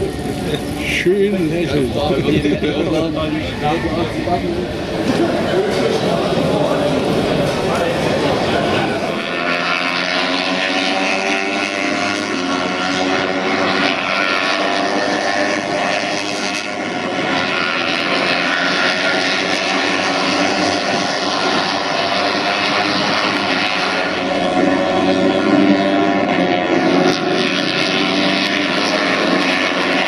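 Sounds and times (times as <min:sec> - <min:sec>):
racing motorcycles at high revs: 0:05.0 - 0:30.0.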